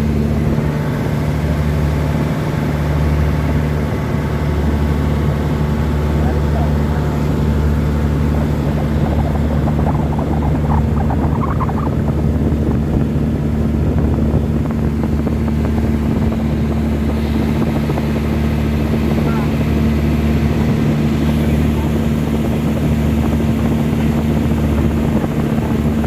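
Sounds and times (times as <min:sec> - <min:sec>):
loud low bass drone from speakers: 0:00.0 - 0:26.0.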